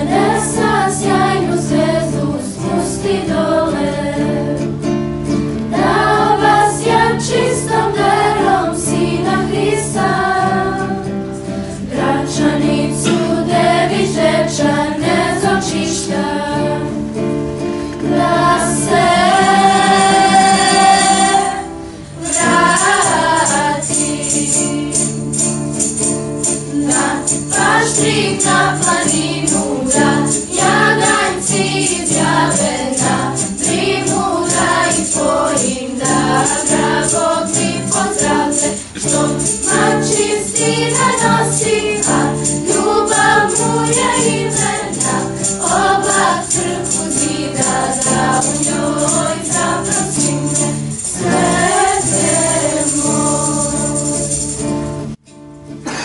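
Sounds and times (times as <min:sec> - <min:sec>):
girls' choir singing: 0:00.0 - 0:05.0, 0:05.6 - 0:17.3, 0:18.0 - 0:54.6
acoustic guitar strumming: 0:00.0 - 0:56.0.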